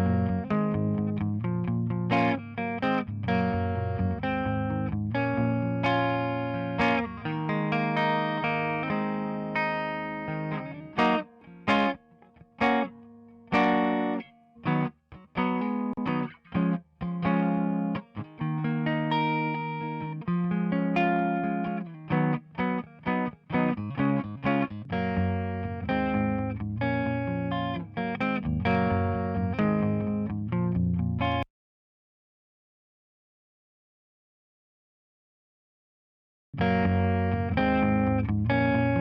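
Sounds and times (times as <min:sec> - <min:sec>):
electric guitar chords: 0:00.0 - 0:31.4, 0:36.6 - 0:39.0.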